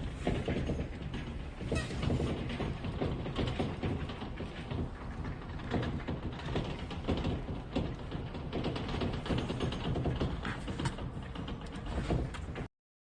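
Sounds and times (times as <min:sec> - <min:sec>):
doors rattling and knocking: 0:00.0 - 0:12.7
low rumble of building shaking: 0:00.0 - 0:12.7.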